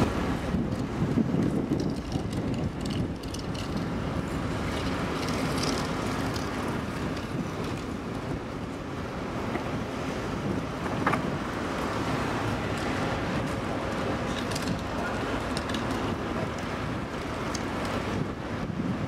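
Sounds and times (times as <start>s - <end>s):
low rumble of machinery: 0.0s - 19.0s
wind buffeting microphone: 0.0s - 19.0s.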